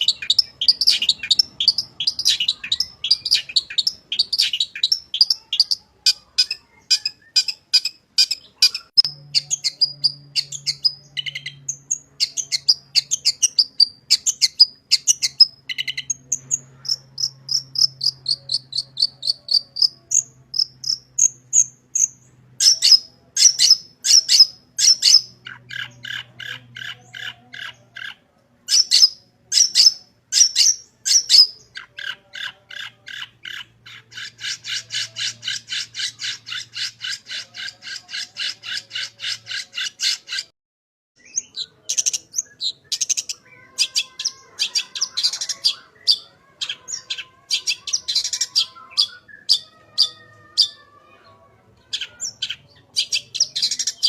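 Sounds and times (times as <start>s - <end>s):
shrike singing: 0.0s - 40.5s, 41.2s - 51.2s, 51.8s - 54.0s.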